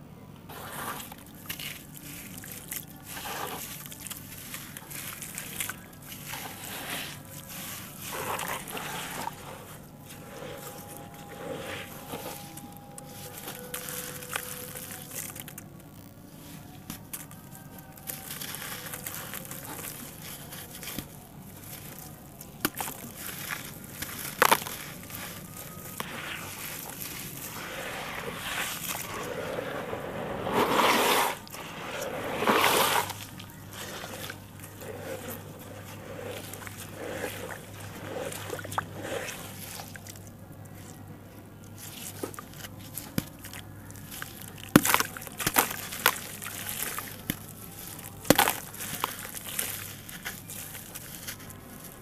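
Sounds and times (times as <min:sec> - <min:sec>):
muddy water sloshing: 0:00.5 - 0:15.6, 0:16.5 - 0:52.0
hands squelching wet dirt: 0:00.5 - 0:15.7, 0:16.3 - 0:52.0.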